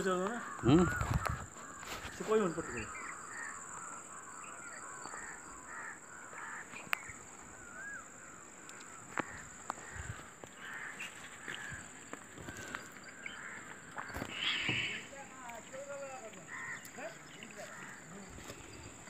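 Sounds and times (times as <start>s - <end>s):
birds calling harshly: 0.0s - 19.0s.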